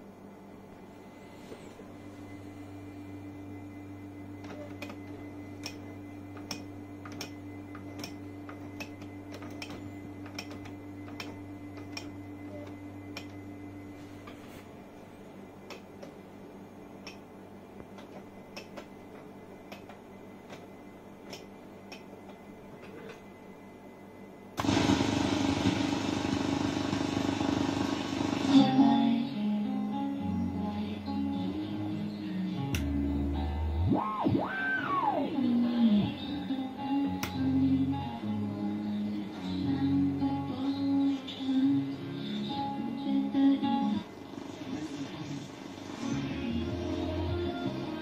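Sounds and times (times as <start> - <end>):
receiver noise and hum: 0.0 - 48.0.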